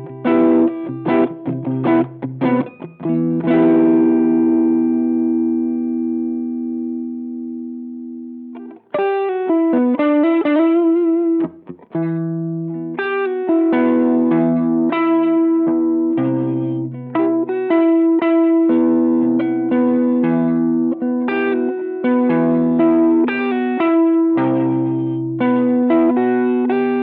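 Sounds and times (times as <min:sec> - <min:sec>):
overdriven electric guitar: 0:00.0 - 0:27.0.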